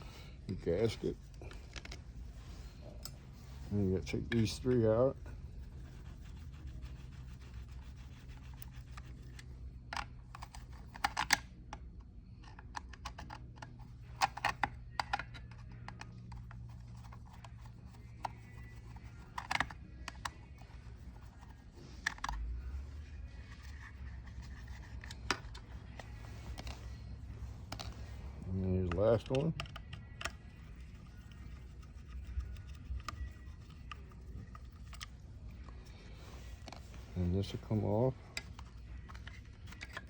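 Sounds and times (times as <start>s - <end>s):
steady low hum: 0.0s - 40.0s
screwdriver clicking and scraping: 4.0s - 22.8s, 23.4s - 40.0s.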